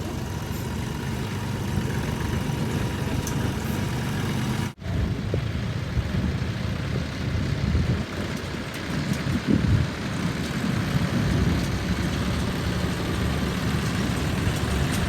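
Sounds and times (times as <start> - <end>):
heavy diesel engines rumbling: 0.0 - 15.0.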